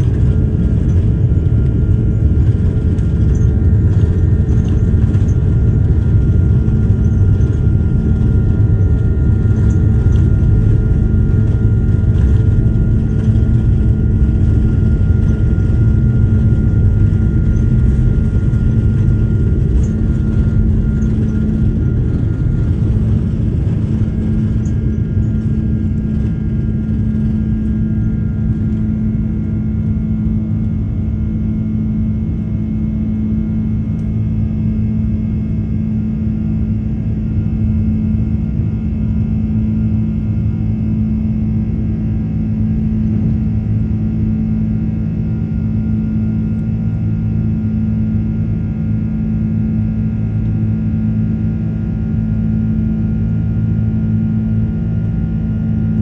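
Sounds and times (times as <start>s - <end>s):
heavy cabin rumble: 0.0s - 56.0s
jet engine drone: 0.0s - 56.0s.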